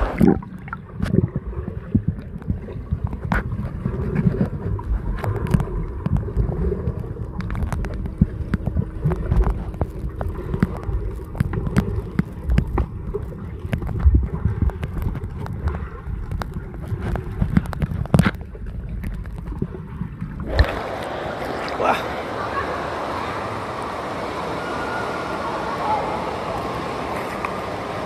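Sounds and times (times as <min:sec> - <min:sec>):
muffled swirling water: 0:00.0 - 0:28.0.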